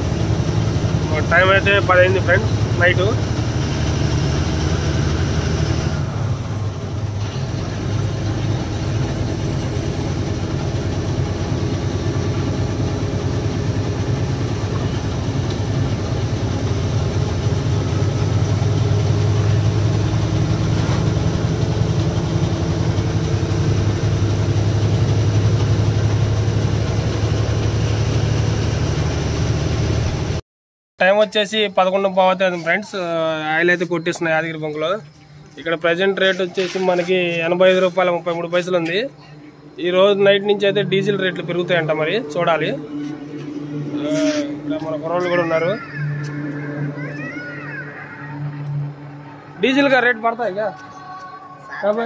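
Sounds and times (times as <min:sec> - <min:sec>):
truck diesel engine running: 0:00.0 - 0:30.4, 0:31.7 - 0:50.9.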